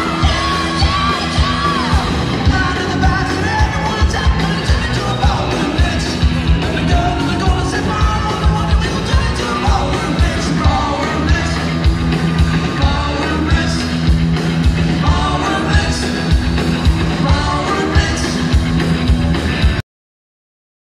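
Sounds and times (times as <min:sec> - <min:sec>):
bass guitar: 0:00.0 - 0:19.8
electric guitar: 0:00.0 - 0:19.8
steady drum beat: 0:00.0 - 0:19.8.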